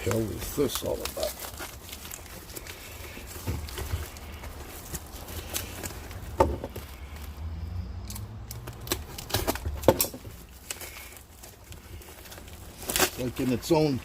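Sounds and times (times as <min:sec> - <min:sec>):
wrapping crinkling: 0:00.0 - 0:14.0.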